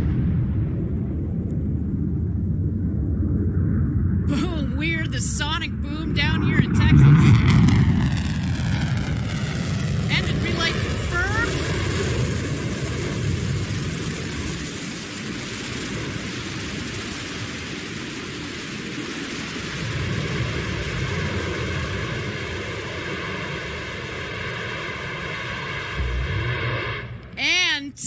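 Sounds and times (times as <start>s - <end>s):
rocket engine rumbling roar: 0.0s - 28.0s.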